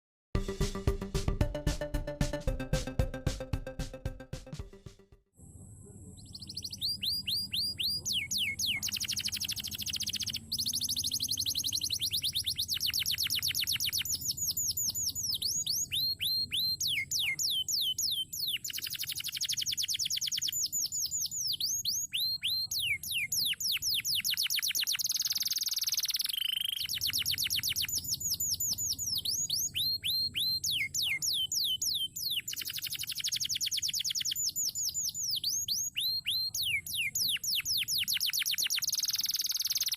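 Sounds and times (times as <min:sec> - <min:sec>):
canary singing with trills: 0:06.0 - 0:39.9.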